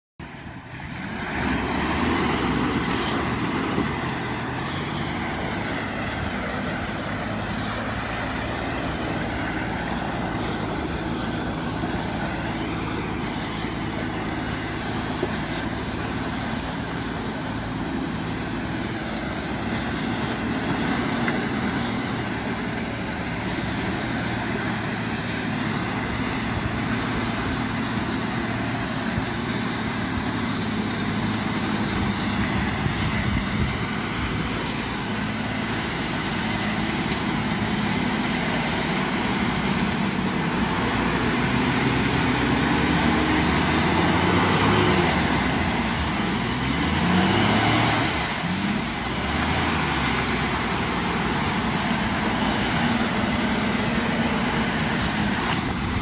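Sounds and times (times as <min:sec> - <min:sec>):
car engine running under load: 0:00.2 - 0:56.0
tyres splashing through mud: 0:00.2 - 0:56.0.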